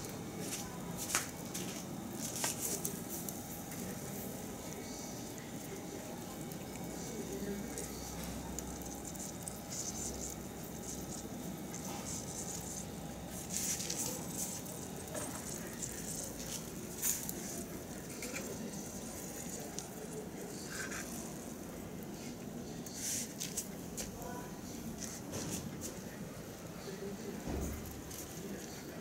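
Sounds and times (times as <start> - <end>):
meat sizzling on a grill: 0.0 - 29.0.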